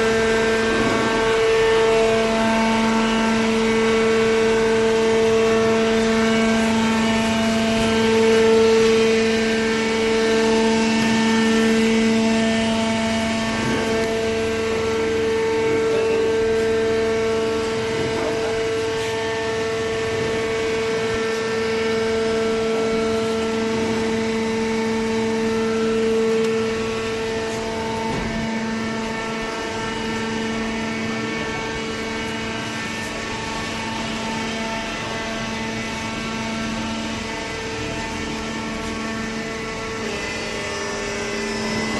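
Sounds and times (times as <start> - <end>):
hydraulic pump humming: 0.0 - 41.9.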